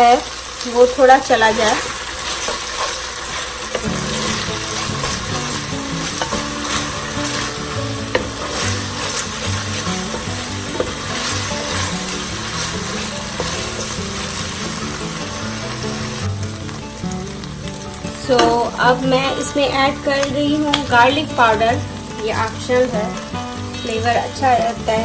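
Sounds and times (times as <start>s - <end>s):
sauce sizzling in a pan: 0.0s - 25.0s.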